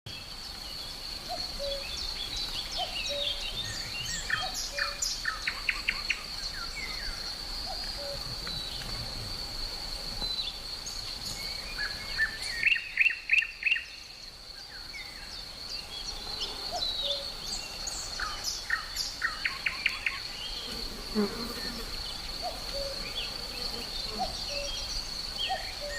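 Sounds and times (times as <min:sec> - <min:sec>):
birds chirping and trilling: 0:00.1 - 0:25.9
insect drone: 0:00.1 - 0:25.9.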